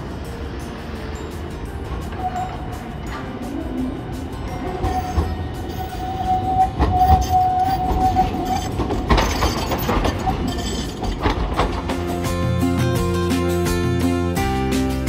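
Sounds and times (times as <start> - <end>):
streetcar wheels squealing: 0.0 - 12.1
wheels clunking over rail joints: 0.0 - 13.5.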